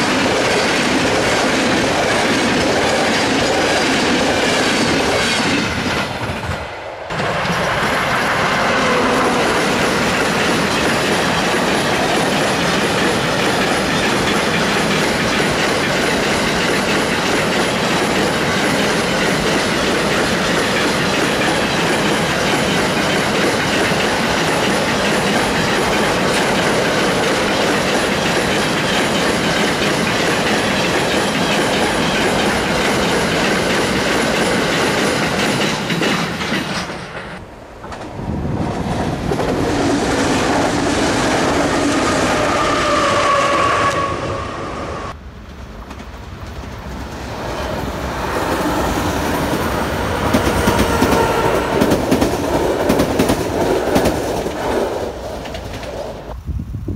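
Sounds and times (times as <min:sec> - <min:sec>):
train wheels rolling on rails: 0:00.0 - 0:56.9.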